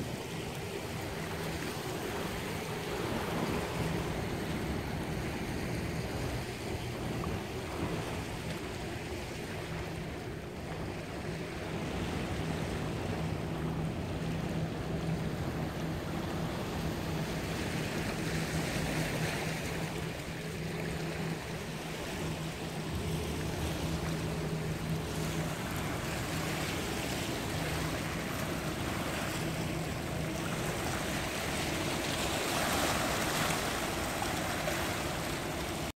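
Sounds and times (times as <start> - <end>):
steady low hum: 0.0 - 35.9
waves lapping on rocky shore: 0.0 - 35.9.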